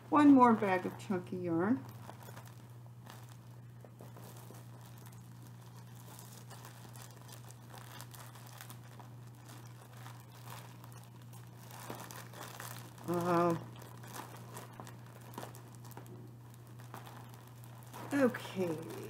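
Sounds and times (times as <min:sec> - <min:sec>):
steady low hum: 0:00.0 - 0:19.0
plastic bag crinkling: 0:00.2 - 0:19.0.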